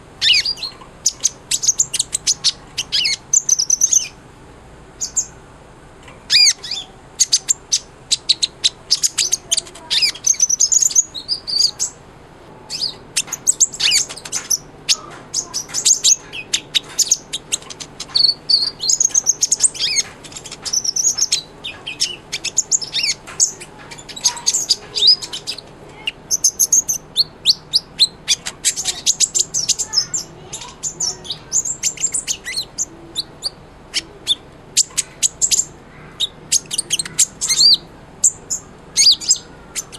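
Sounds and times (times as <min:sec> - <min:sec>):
bird chirping and trilling: 0:00.2 - 0:04.2, 0:05.0 - 0:05.4, 0:06.3 - 0:12.0, 0:12.6 - 0:39.9.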